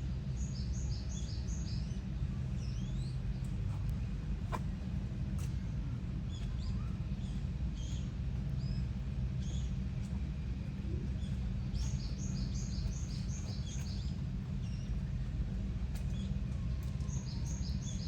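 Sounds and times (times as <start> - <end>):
low background rumble: 0.0 - 18.0
small birds chirping: 0.3 - 4.8, 5.4 - 18.0.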